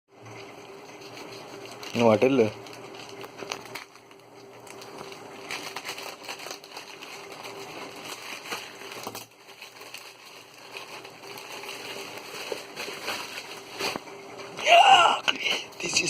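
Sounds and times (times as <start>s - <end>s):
packaging crinkling and rustling: 0.4s - 14.6s.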